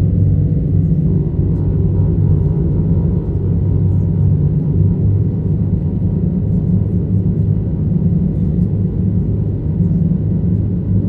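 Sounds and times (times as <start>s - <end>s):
loud low rumbling drone: 0.0s - 11.0s.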